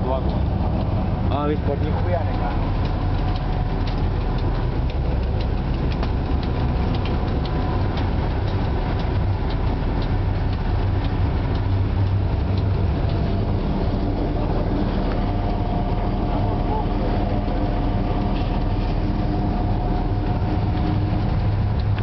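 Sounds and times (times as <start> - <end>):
diesel engine drone: 0.0 - 22.0
wheels clicking over rail joints: 0.0 - 22.0.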